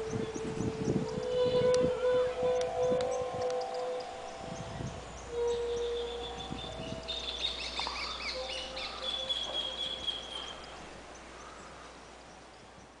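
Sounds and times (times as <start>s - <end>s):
birds chirping and calling: 0.0s - 12.0s
long steady held tones: 0.0s - 13.0s.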